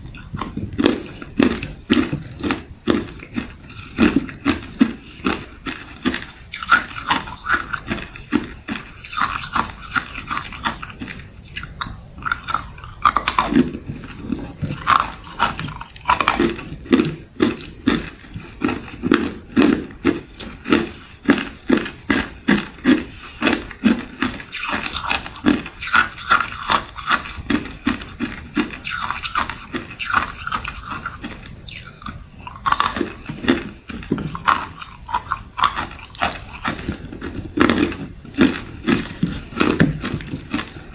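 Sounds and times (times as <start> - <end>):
ice cubes crunching: 0.1 - 40.9.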